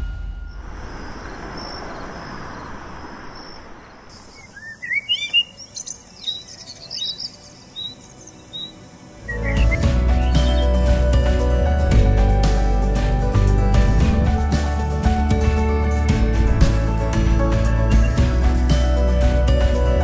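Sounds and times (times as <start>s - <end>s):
birds chirping: 0.5s - 11.3s, 13.4s - 18.9s.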